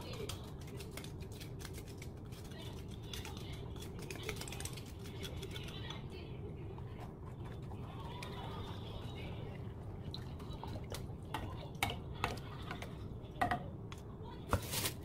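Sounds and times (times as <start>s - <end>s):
pot ticking and crackling: 0.0s - 14.0s.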